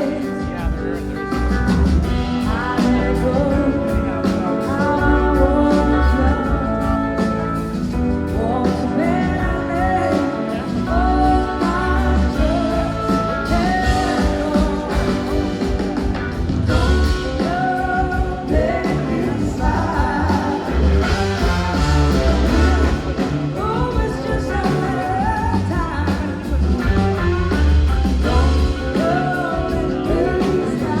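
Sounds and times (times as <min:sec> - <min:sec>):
lead singer: 0:00.0 - 0:31.0
live rock band playing: 0:00.0 - 0:31.0.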